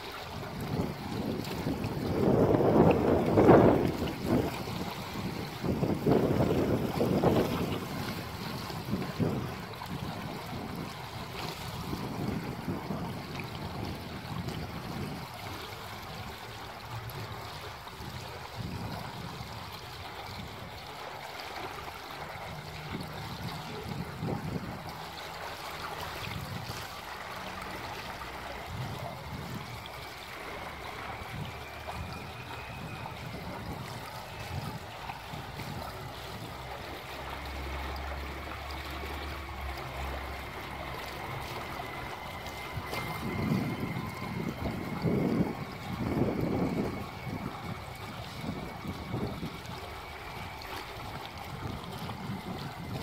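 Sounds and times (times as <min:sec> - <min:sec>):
fountain water splashing: 0:00.0 - 0:53.0
wind rumbling on microphone: 0:00.0 - 0:53.0.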